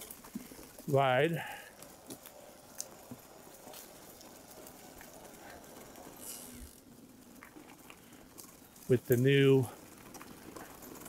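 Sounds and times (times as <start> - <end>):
bike clicks and rattles: 0.0 - 11.0
bike tyres on dirt trail: 0.0 - 11.0.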